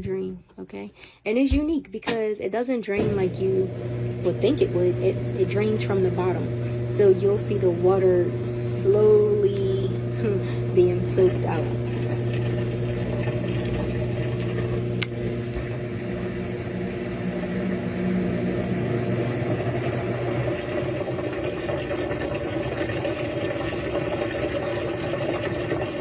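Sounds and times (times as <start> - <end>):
washing machine pump motor hum: 2.9 - 26.0.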